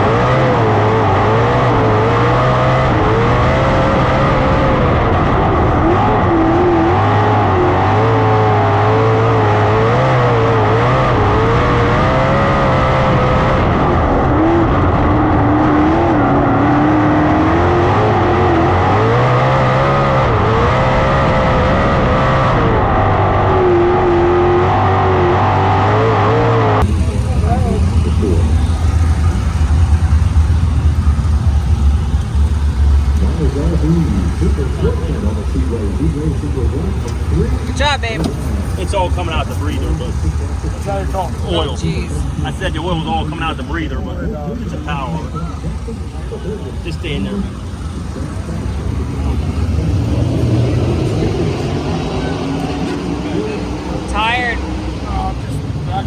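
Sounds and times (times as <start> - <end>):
race car engines racing: 0.0 - 56.0.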